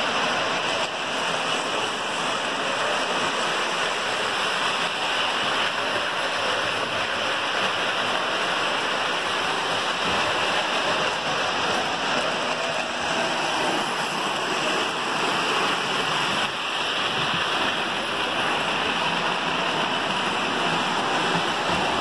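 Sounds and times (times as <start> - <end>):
toy train rumbling on track: 0.0 - 22.0.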